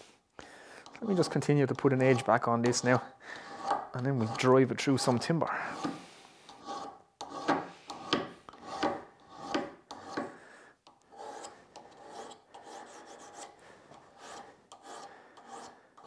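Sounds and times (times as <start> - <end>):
file scraping steel bit: 0.8 - 4.6, 5.6 - 10.4, 11.0 - 16.0.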